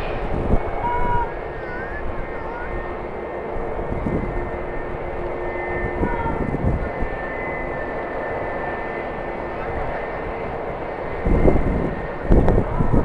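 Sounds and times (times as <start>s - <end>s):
jet engines whining: 0.0s - 13.0s
wind rumble on microphone: 0.0s - 13.0s.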